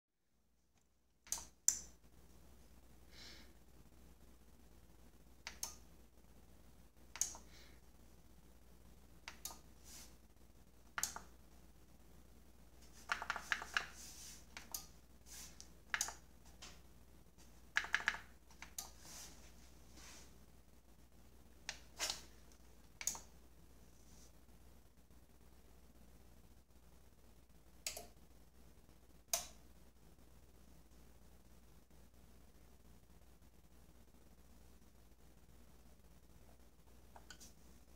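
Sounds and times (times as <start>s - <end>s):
faint steady hum: 0.3s - 37.9s.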